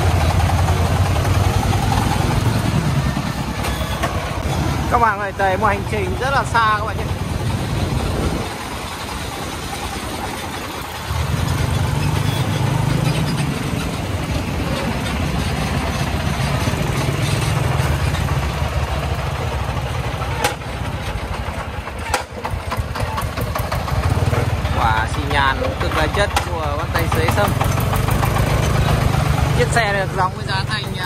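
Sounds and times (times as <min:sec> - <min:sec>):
diesel engine chugging: 0:00.0 - 0:31.0.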